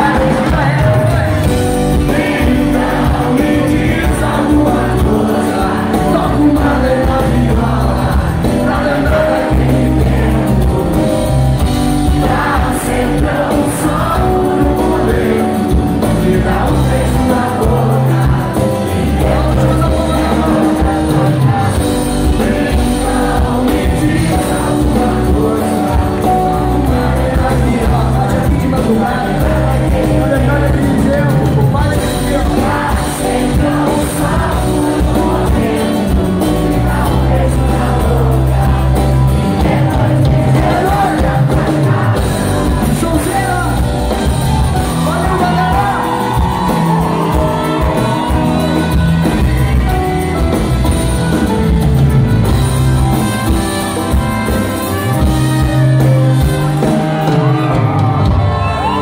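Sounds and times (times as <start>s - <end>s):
live reggae band with singing: 0.0s - 59.0s.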